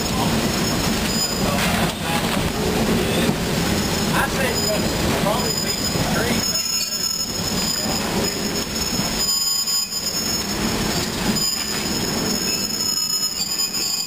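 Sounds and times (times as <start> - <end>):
high wheel squeal: 0.0 - 1.9, 3.0 - 14.0
train car rumbling on track: 0.0 - 14.0.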